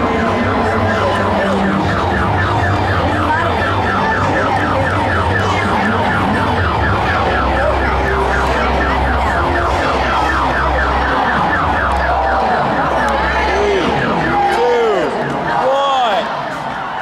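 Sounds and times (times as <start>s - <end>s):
car alarm warbling: 0.0s - 17.0s.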